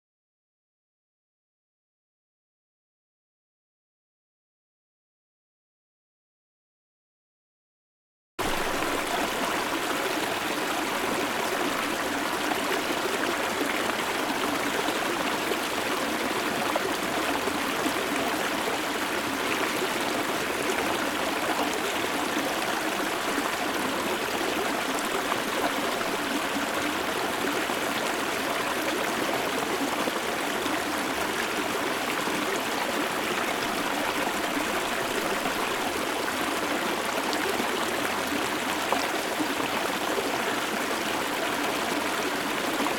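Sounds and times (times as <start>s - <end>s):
stream flowing over rocks: 8.4s - 42.9s.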